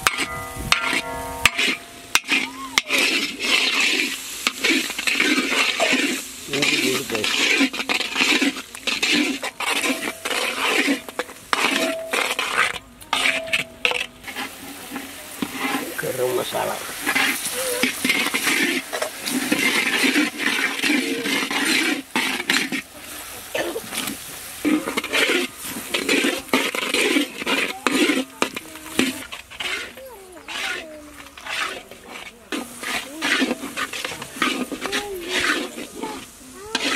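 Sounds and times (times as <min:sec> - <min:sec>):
metal ladle scraping pan: 0:00.0 - 0:36.9
oil sizzling: 0:00.0 - 0:36.9.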